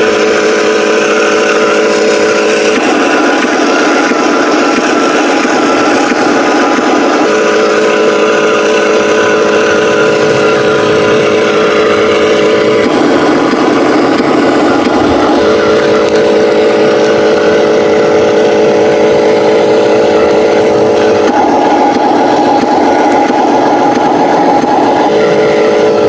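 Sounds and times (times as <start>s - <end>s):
toy truck motor drone: 0.0s - 26.0s.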